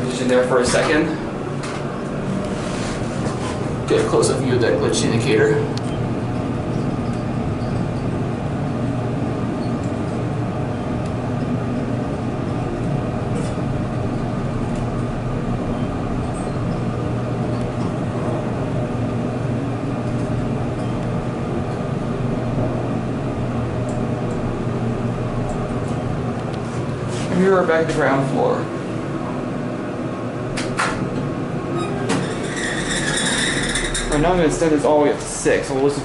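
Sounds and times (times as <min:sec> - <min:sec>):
elevator machinery hum: 0:00.0 - 0:36.0.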